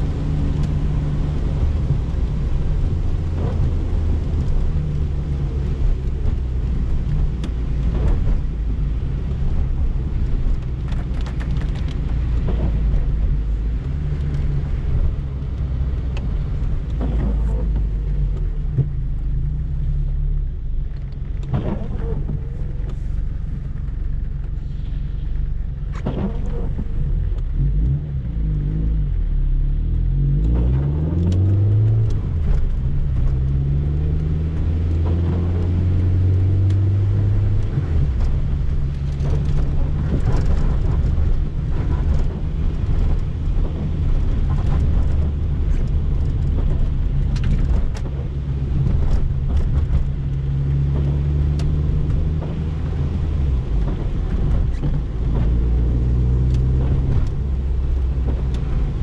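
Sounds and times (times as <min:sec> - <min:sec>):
car engine idling and accelerating: 0:00.0 - 0:59.0.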